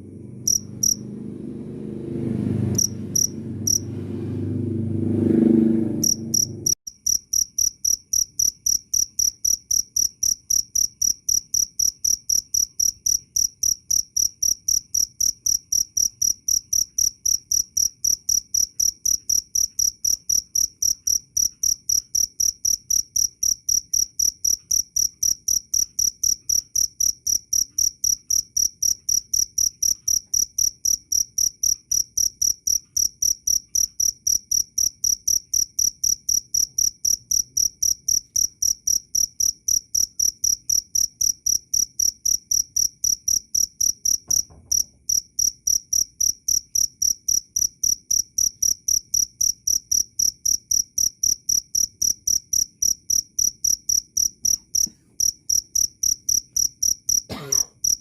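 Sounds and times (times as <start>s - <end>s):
cricket chirping: 0.0s - 1.2s, 2.5s - 3.9s, 5.9s - 58.0s.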